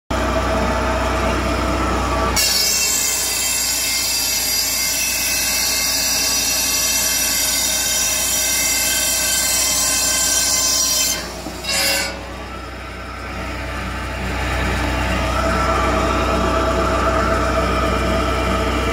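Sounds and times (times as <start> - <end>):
firewood processor humming: 0.1 - 18.9.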